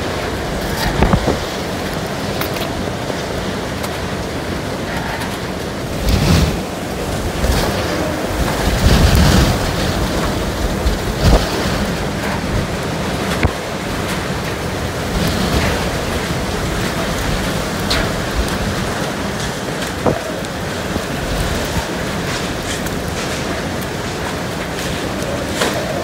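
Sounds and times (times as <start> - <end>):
driven rain: 0.0 - 26.0
howling hurricane wind: 0.0 - 26.0
wind buffeting microphone: 0.0 - 26.0.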